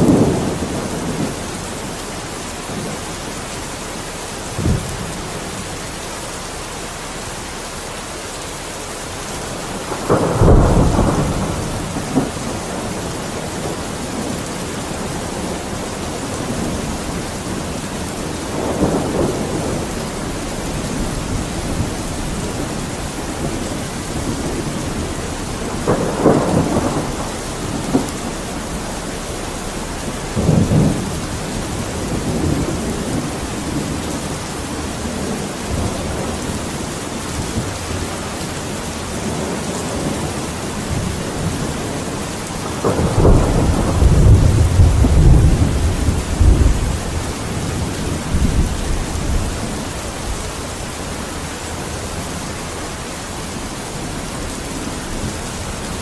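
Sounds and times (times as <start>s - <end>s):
thunder rumbling: 0.0s - 7.1s, 8.8s - 56.0s
rain falling: 0.0s - 56.0s.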